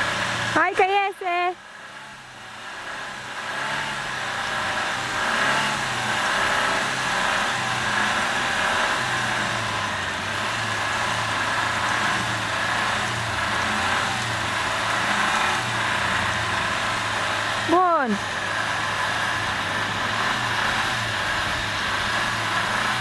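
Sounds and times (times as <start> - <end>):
car engine revving under load: 0.0 - 23.0.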